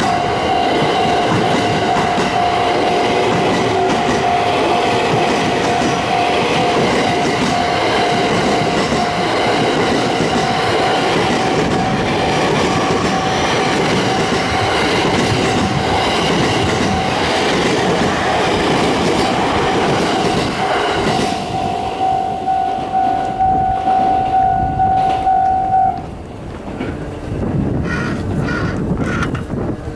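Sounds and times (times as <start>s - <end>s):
train wheels clattering over rails: 0.0s - 25.3s, 26.0s - 29.9s
level crossing warning bell: 0.0s - 26.0s.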